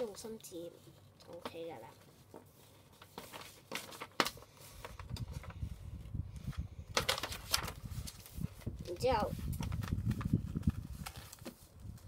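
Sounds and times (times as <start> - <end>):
paper crackles: 0.0 - 5.8, 6.4 - 12.0
paper rustling and crinkling: 0.0 - 12.0.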